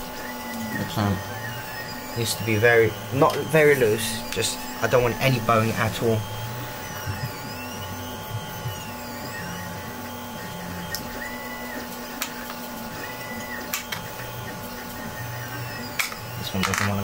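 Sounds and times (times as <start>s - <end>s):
printer stepper motors humming: 0.0s - 17.0s.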